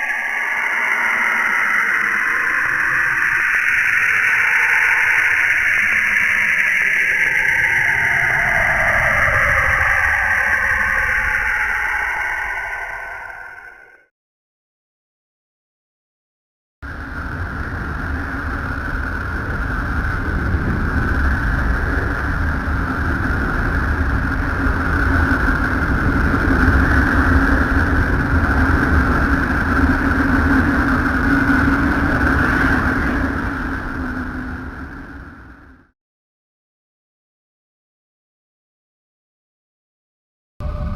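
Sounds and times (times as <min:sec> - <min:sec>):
deep rumble: 0:00.0 - 0:14.0, 0:16.8 - 0:35.9, 0:40.6 - 0:40.9
droning hum with high whine: 0:00.0 - 0:14.0, 0:16.9 - 0:35.9, 0:40.6 - 0:40.9.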